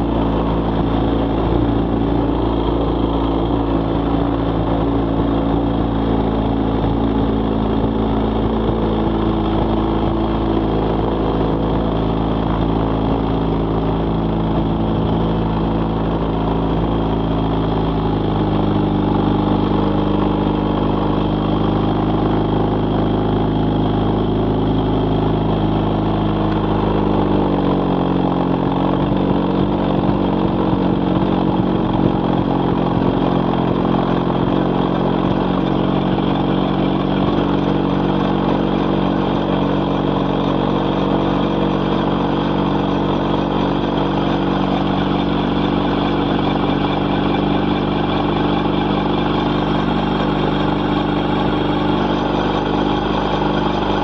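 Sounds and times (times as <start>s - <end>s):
gyrocopter engine running: 0.0s - 54.0s.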